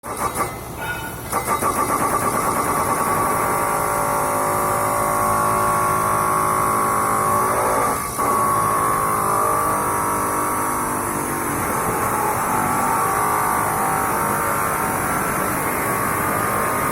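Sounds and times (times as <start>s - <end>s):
electric chop saw whining: 1.3s - 16.9s.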